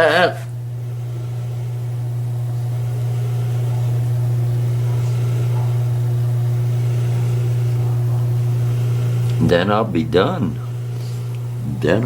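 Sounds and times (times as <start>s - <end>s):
low electric hum: 0.0s - 12.0s.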